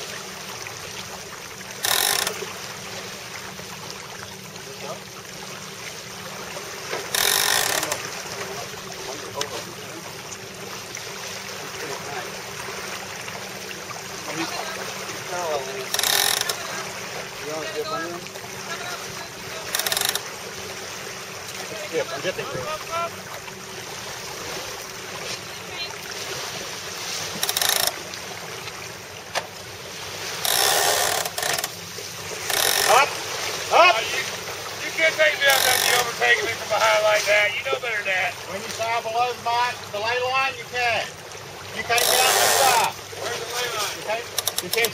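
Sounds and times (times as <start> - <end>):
water rushing past boat: 0.0 - 44.9.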